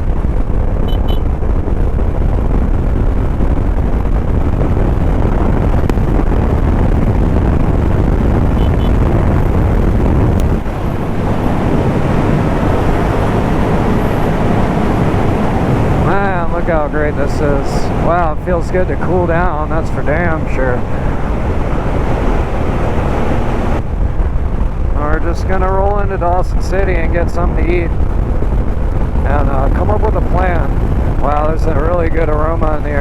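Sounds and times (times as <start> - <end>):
wind rush on microphone: 0.0 - 33.0.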